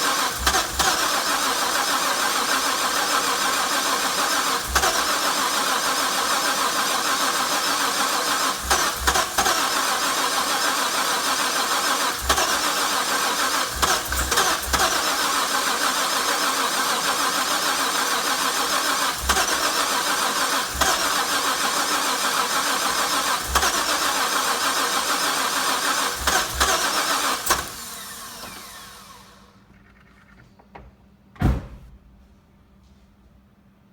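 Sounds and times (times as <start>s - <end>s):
starter motor cranking engine: 0.0s - 30.3s.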